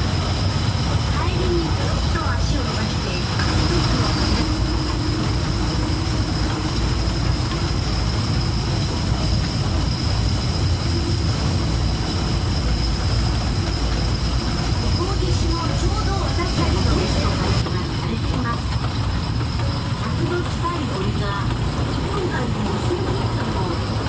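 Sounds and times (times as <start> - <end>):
thin high whine: 0.0 - 24.0
train wheels rumbling on track: 0.0 - 24.0.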